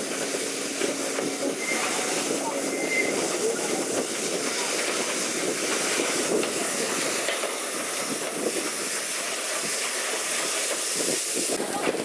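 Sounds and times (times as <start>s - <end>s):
steam hissing: 0.0s - 12.0s
train carriages running on track: 0.0s - 12.0s.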